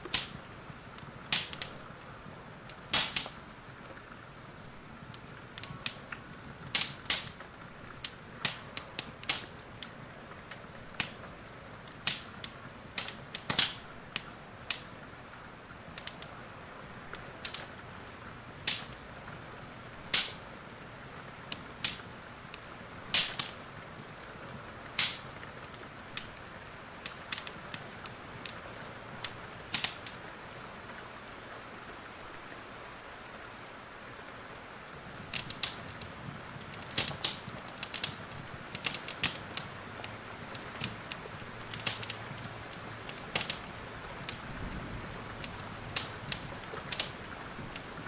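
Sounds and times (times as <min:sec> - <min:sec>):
fire crackling and popping: 0:00.0 - 0:30.4, 0:34.9 - 0:48.0
rain hissing: 0:00.0 - 0:48.0.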